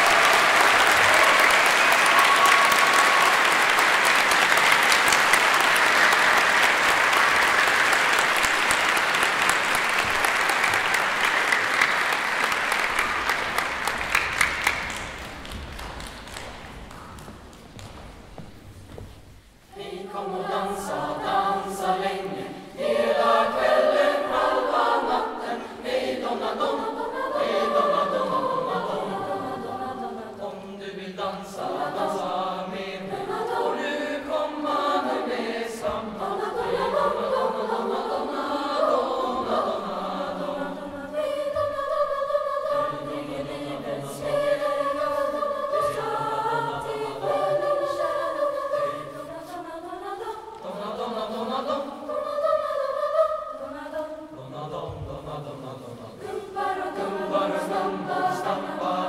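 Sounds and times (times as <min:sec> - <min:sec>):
youth choir singing: 0:00.0 - 0:15.2, 0:19.7 - 0:59.0.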